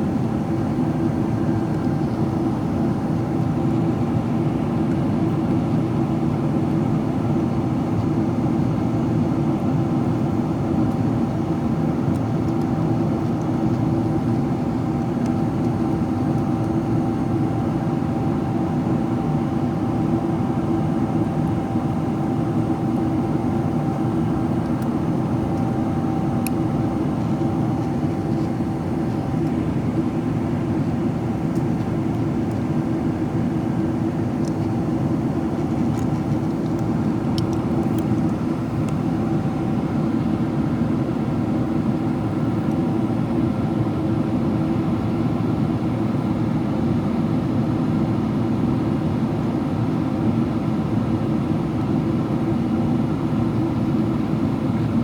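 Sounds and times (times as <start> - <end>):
airflow rushing in aircraft cabin: 0.0 - 55.0
jet engines from inside cabin: 0.0 - 55.0.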